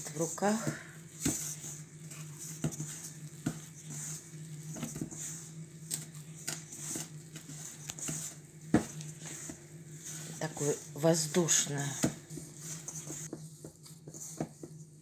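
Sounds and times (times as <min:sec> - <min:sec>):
dough squishing: 0:00.0 - 0:15.0
steady low hum: 0:00.0 - 0:15.0.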